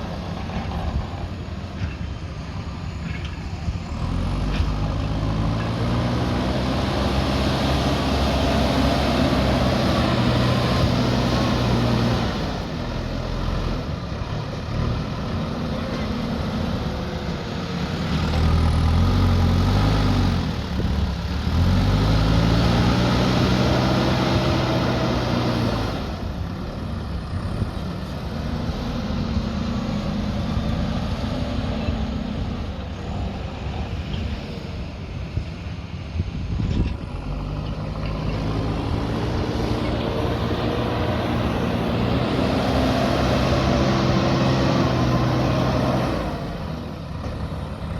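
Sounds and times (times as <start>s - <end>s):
diesel engine revving: 2.7s - 47.9s.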